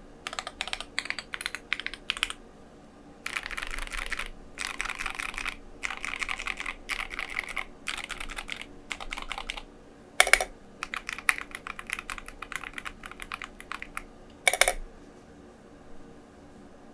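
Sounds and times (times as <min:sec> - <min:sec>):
mechanical keyboard typing: 0:00.2 - 0:02.4, 0:03.2 - 0:14.8.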